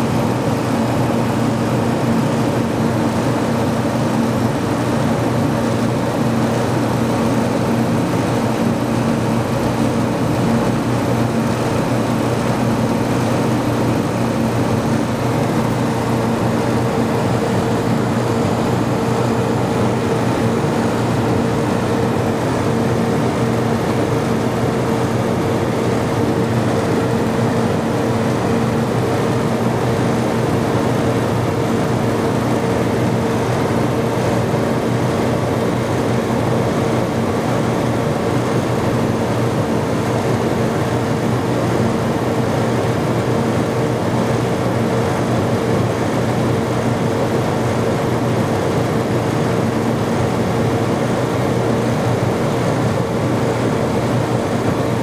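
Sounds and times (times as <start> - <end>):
machinery hum: 0.0 - 55.0.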